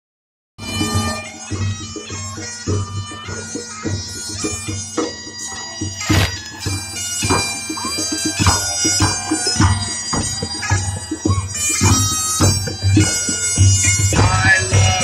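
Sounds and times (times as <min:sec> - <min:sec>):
droning wind instrument: 0:00.6 - 0:15.0
frame drums beating: 0:00.6 - 0:15.0.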